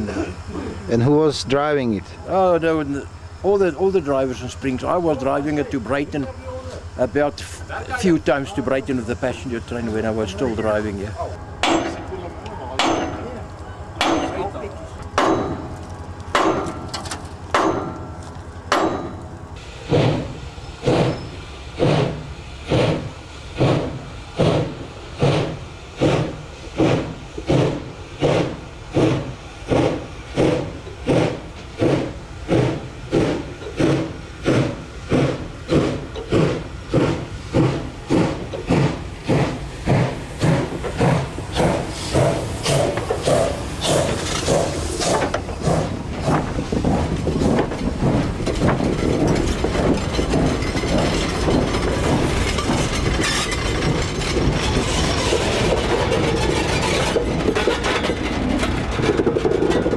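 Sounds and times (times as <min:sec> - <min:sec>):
steam locomotive chuffing: 0:00.0 - 0:59.9.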